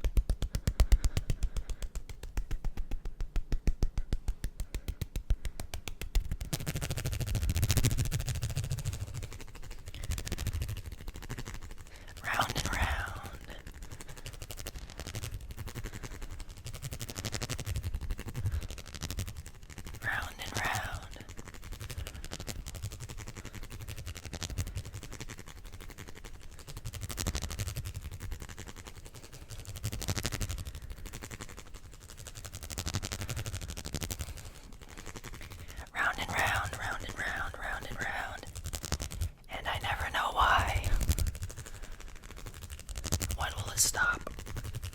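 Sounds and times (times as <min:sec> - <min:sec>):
hands rubbing and scratching: 0:00.0 - 0:44.9.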